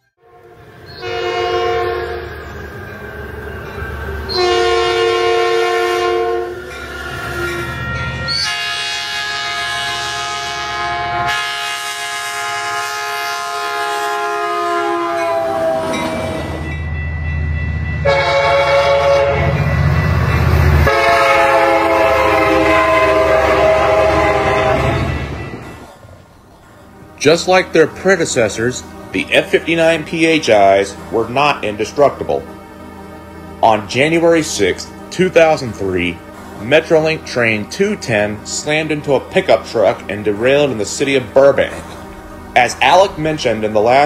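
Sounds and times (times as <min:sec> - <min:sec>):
low rumble of train: 0:00.0 - 0:44.0
locomotive air horn blasts: 0:00.2 - 0:02.4, 0:04.3 - 0:06.6, 0:07.8 - 0:16.5, 0:18.0 - 0:19.8, 0:20.8 - 0:25.4, 0:26.9 - 0:44.0.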